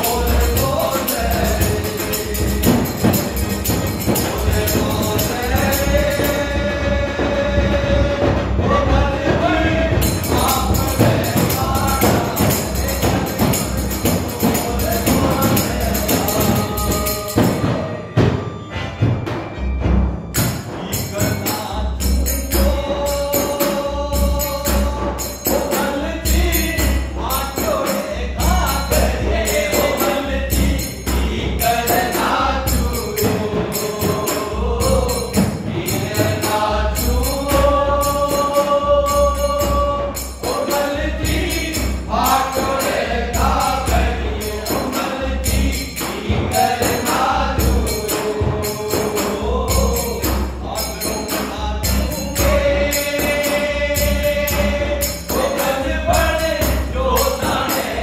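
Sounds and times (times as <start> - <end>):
person singing folk song: 0.0 - 18.4, 20.6 - 58.0
hand-played frame drum beat: 0.0 - 58.0.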